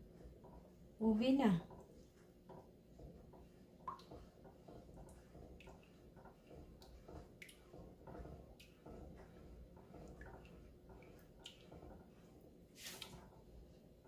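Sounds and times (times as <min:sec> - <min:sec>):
spatula stirring thick mash: 0:00.0 - 0:14.0.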